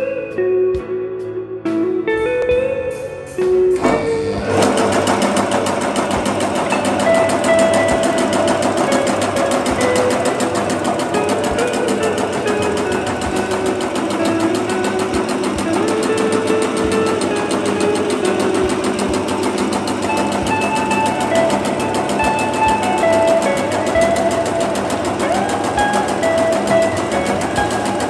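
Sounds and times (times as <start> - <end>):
machine humming tone: 3.2 - 28.0
machine mechanical clatter: 3.8 - 28.0.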